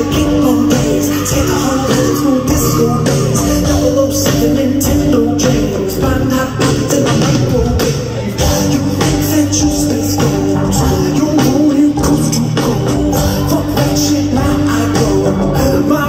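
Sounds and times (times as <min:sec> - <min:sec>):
drum beat: 0:00.0 - 0:16.0
live band playing: 0:00.0 - 0:16.0.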